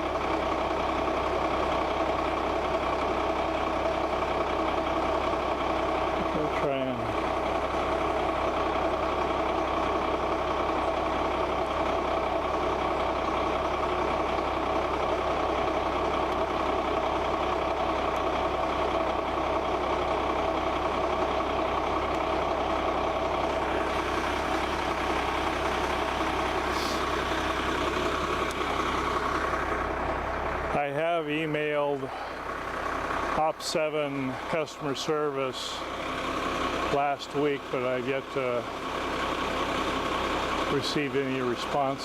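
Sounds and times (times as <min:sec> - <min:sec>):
motorhome engine idling: 0:00.0 - 0:42.0.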